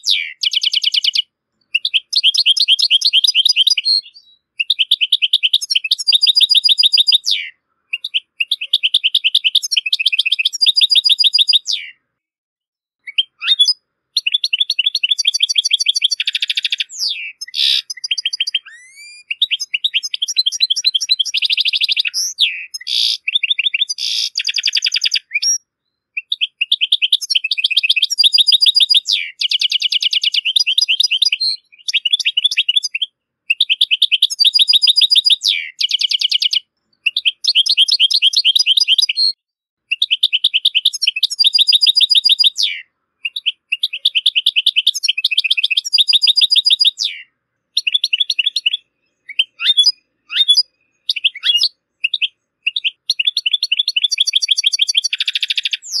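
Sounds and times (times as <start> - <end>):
goldfinch twittering song: 0.0 - 12.0, 13.0 - 56.0.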